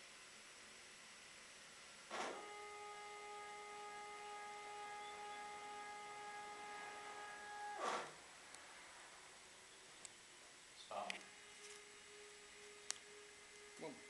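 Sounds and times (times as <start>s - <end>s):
stepper motors whining: 2.1s - 14.0s.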